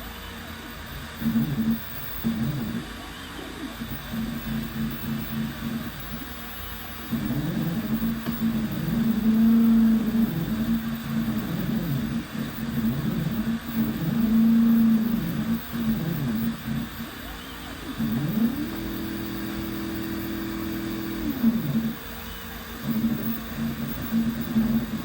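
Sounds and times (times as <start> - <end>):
stepper motors whining hum: 0.0 - 25.0.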